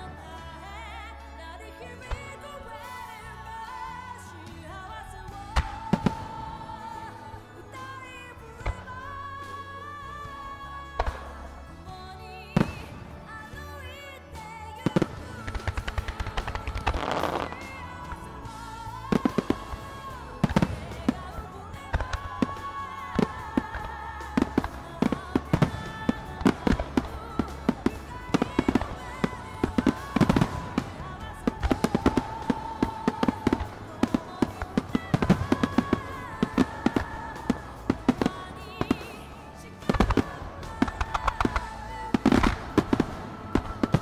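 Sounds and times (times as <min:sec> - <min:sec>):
music for fireworks show: 0:00.0 - 0:44.0
fireworks bursting with sharp bangs: 0:05.3 - 0:07.9, 0:08.6 - 0:11.7, 0:12.4 - 0:44.0.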